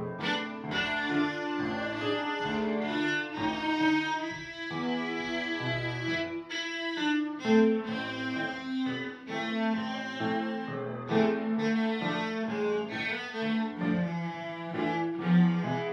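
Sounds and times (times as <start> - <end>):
music with held notes: 0.0 - 15.9.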